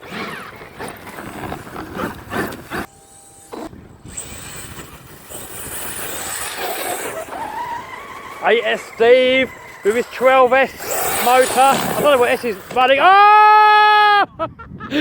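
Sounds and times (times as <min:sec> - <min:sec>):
high electric motor whine: 0:00.0 - 0:13.0
rc trucks tyres churning: 0:00.0 - 0:13.6.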